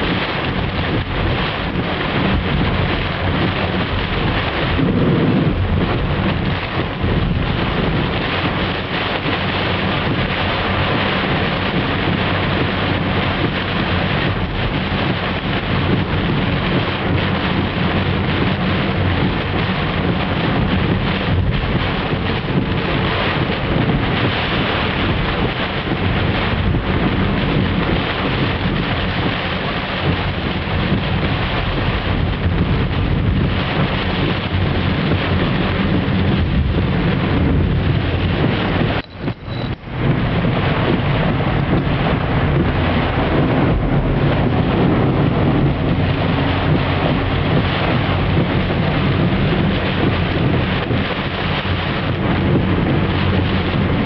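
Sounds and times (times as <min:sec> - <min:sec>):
wind and rain rushing: 0:00.0 - 0:54.0
wind buffeting microphone: 0:00.0 - 0:54.0.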